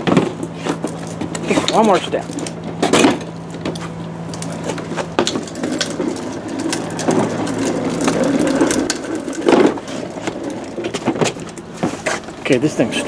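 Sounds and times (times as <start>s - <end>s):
cooler wheels rattling on concrete: 0.0s - 13.0s.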